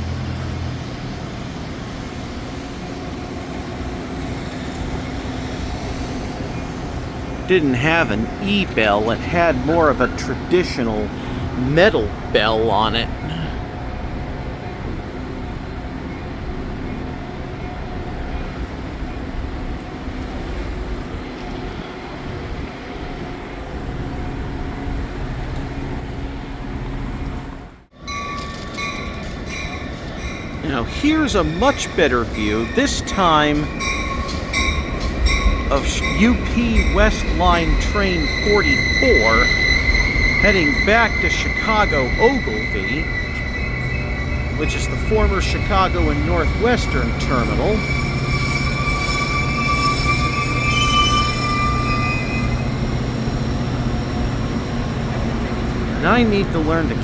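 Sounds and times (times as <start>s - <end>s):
deep diesel locomotive tone: 0.0s - 57.0s
train rumbling past: 0.0s - 57.0s.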